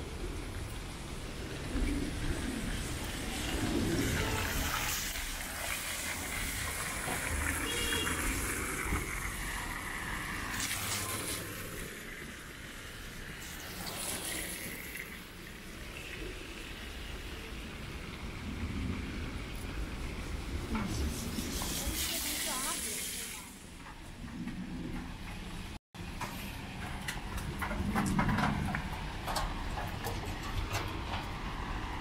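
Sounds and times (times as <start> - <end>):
rain falling and trickling water: 0.0 - 32.0.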